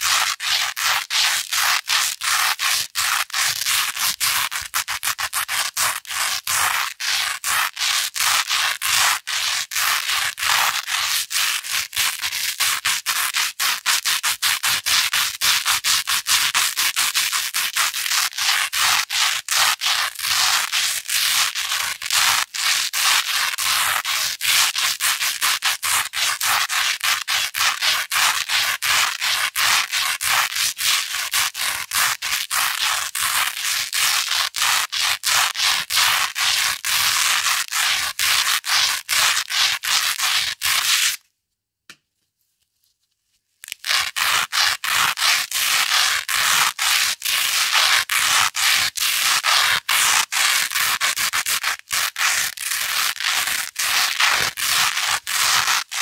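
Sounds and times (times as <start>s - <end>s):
velcro scratching against fabric: 0.0s - 41.3s, 42.4s - 56.0s.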